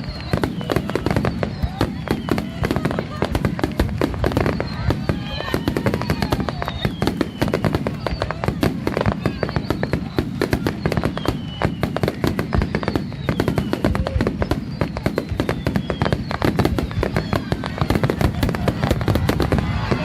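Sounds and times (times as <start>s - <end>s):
fireworks bursts and crackling: 0.0s - 20.0s
fireworks whistles falling in pitch: 0.0s - 20.0s.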